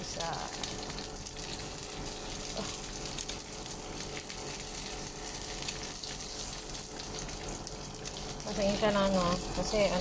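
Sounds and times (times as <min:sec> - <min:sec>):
dumplings sizzling in oil: 0:00.0 - 0:10.0.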